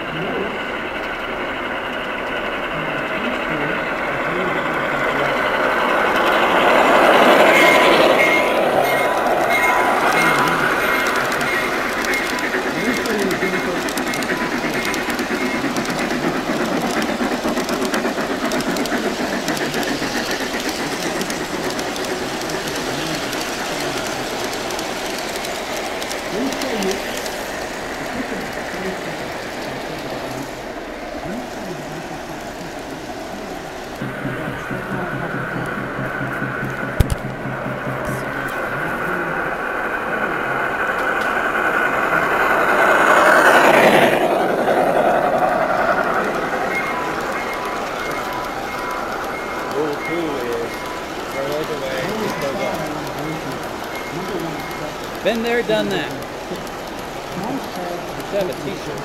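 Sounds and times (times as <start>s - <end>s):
model train wheels rumbling on track: 0.0s - 59.0s
small clicks of train wheels: 0.1s - 59.0s.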